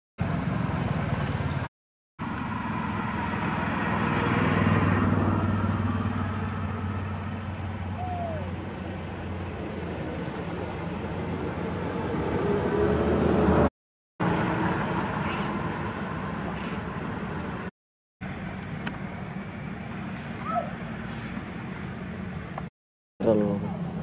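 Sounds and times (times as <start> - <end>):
traffic engines humming: 0.2 - 24.0.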